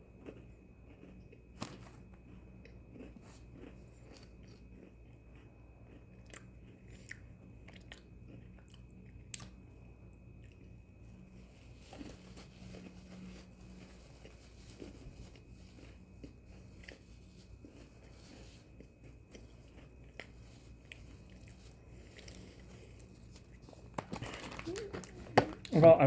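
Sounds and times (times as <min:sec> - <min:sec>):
cookies chewing and crunching: 0:00.0 - 0:26.0
low steady hum: 0:00.0 - 0:26.0.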